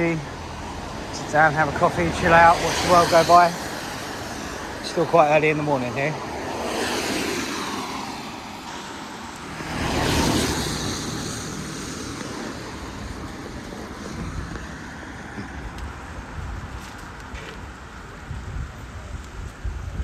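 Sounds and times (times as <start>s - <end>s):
car passing: 0.0s - 18.3s
road noise hiss: 0.0s - 20.0s.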